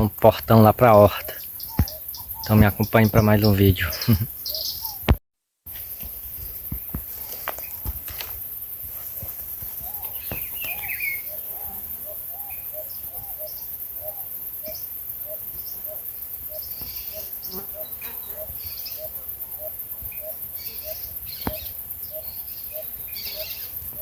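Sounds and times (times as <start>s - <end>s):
bird chirps: 0.0s - 5.2s, 9.4s - 24.0s
high insect hiss: 0.0s - 24.0s.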